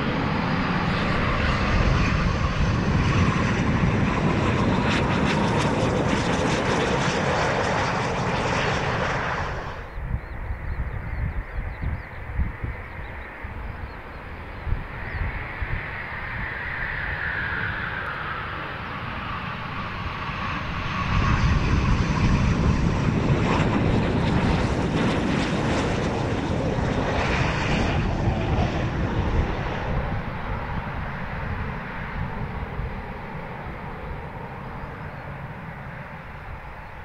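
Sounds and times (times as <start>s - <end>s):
jet engine roar: 0.0s - 37.0s
jet engine whine: 0.0s - 37.0s.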